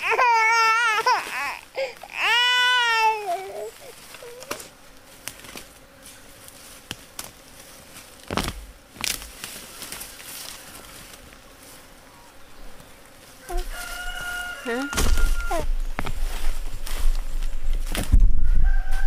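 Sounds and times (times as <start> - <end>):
insect buzzing: 0.0 - 19.0.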